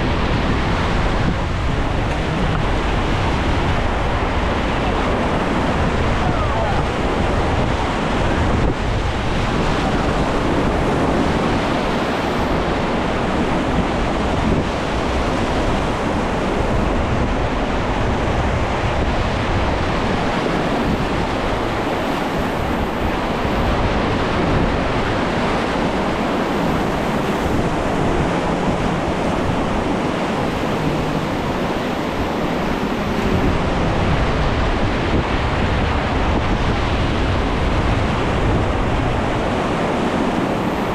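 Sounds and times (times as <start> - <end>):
river rapids rushing: 0.0 - 40.9
wind buffeting microphone: 0.0 - 40.9.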